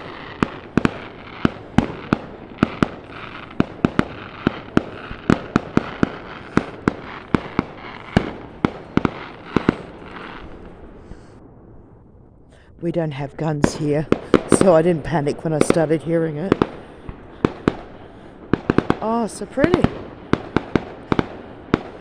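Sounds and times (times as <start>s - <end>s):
fireworks banging: 0.0s - 22.0s
fireworks crackling: 0.0s - 22.0s.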